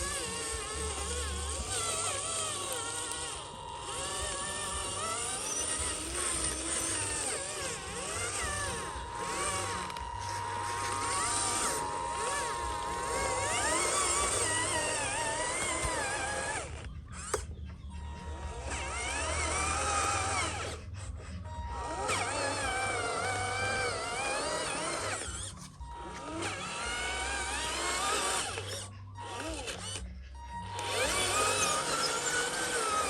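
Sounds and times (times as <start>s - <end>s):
model truck motors whining: 0.0s - 33.0s.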